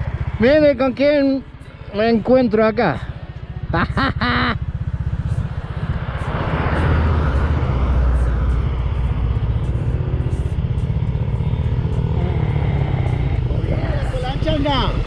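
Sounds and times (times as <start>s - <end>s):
motorcycle engine running: 0.0s - 15.0s
wind or road noise rush: 0.0s - 15.0s.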